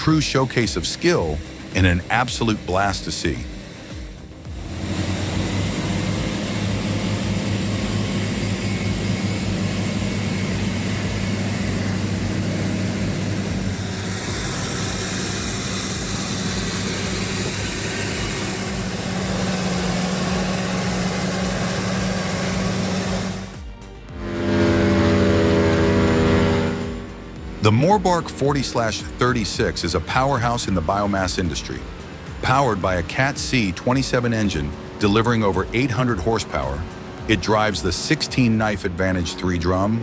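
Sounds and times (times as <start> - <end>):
high hiss: 0.0 - 39.7
truck engine running under load: 0.0 - 40.0.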